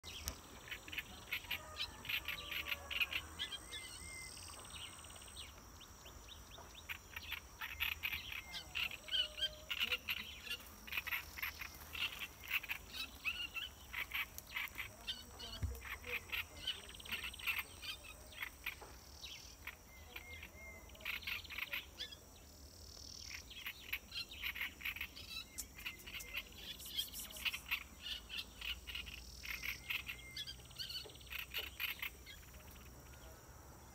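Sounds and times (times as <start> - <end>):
small birds chirping: 0.0 - 33.9
high insect hum: 0.1 - 33.9.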